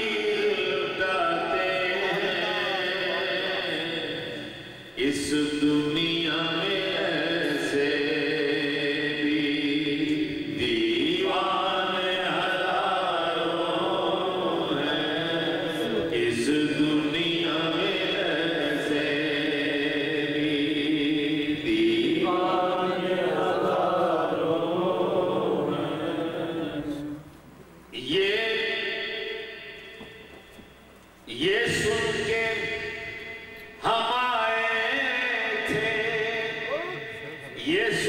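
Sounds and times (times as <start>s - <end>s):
man chanting: 0.0s - 27.2s, 27.9s - 29.2s, 31.3s - 33.0s, 33.8s - 38.0s.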